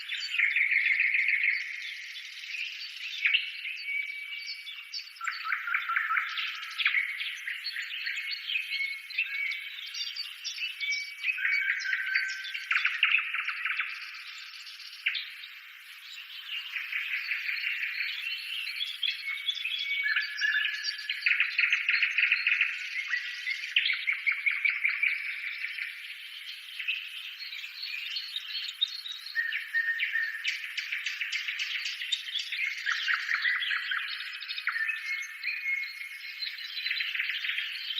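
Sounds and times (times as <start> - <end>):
birds chirping and trilling: 0.0 - 37.9.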